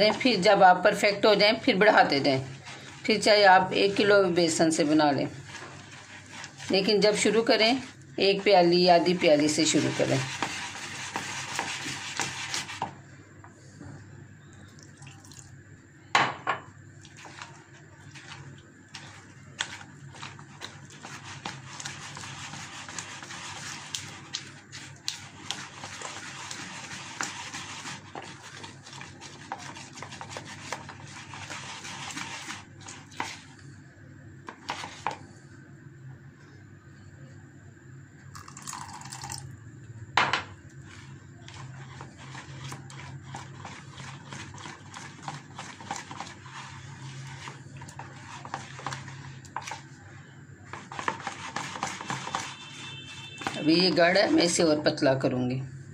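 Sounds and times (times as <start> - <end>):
batter stirred in plastic bowl: 0.0 - 13.2, 17.0 - 35.4, 40.7 - 55.4.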